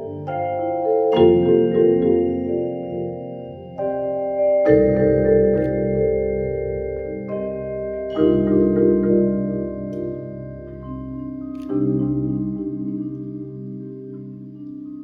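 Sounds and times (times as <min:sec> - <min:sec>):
mallet percussion chords ringing: 0:00.0 - 0:15.0.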